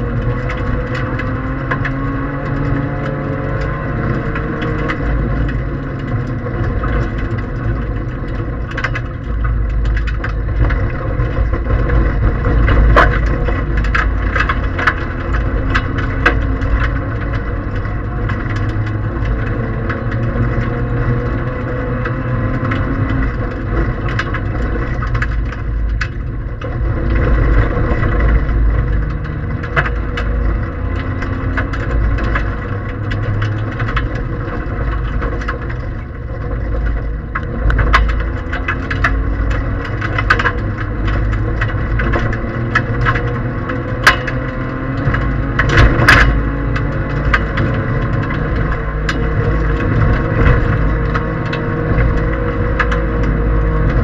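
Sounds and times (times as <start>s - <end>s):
car engine running hard: 0.0s - 54.0s
gravel rattling against car underside: 0.0s - 54.0s.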